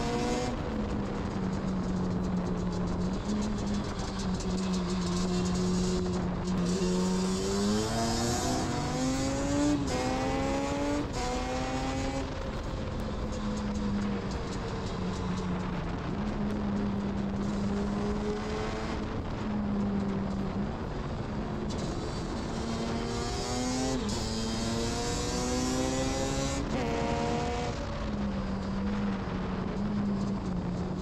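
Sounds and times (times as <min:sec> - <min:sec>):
rushing wind: 0:00.0 - 0:31.0.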